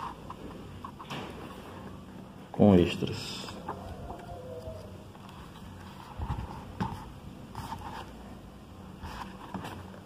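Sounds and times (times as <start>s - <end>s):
book pages rustling: 0.0s - 2.1s, 3.3s - 10.0s.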